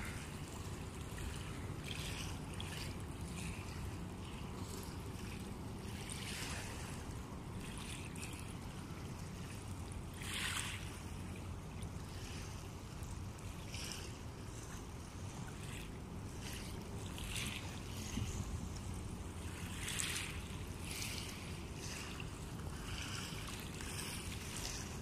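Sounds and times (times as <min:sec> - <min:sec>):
distant engines droning: 0:00.0 - 0:25.0
wind: 0:00.0 - 0:25.0.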